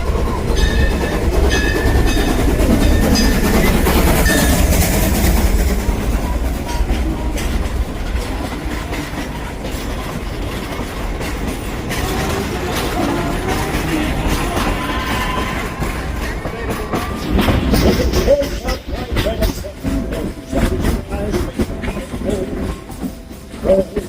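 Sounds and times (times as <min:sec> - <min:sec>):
train running gear rumble: 0:00.0 - 0:24.0
wheels clicking over rail joints: 0:00.0 - 0:24.0.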